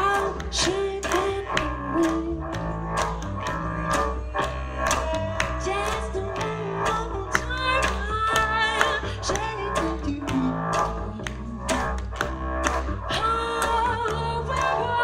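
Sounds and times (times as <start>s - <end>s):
woman singing: 0.0s - 12.2s, 13.1s - 15.0s
double bass groove: 0.0s - 15.0s.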